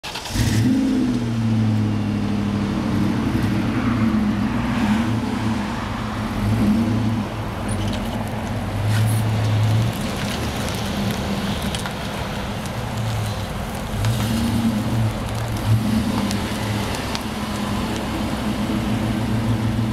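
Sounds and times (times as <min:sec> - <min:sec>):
car engine starting and idling: 0:00.0 - 0:19.9.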